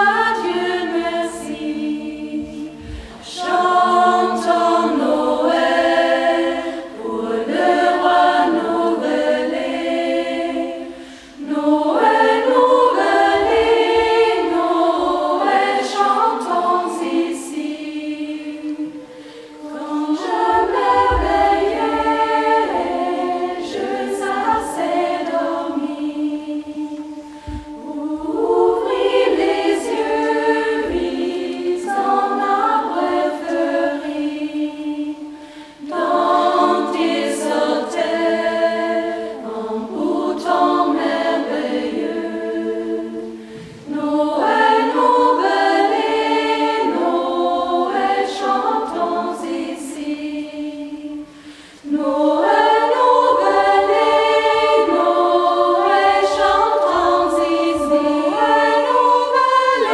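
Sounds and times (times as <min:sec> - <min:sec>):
women's choir singing a cappella: 0:00.0 - 0:59.9.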